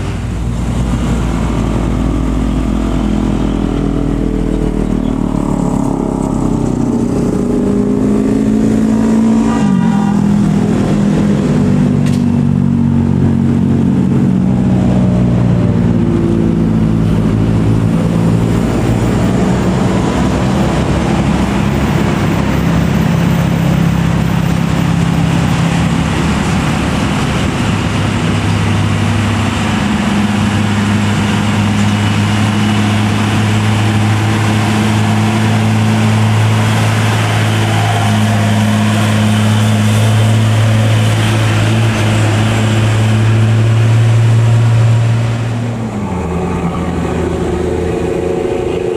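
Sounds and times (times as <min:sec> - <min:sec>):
truck diesel engine pulling hard: 0:00.0 - 0:48.9.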